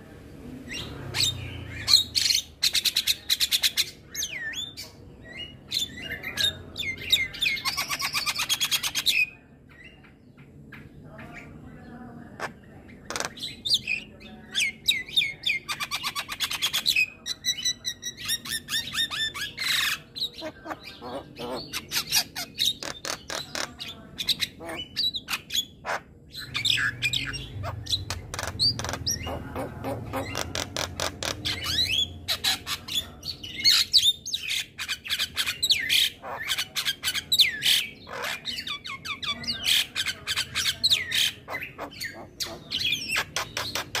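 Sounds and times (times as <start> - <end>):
bird chattering and whistling: 0.7 - 10.1, 12.4 - 44.0.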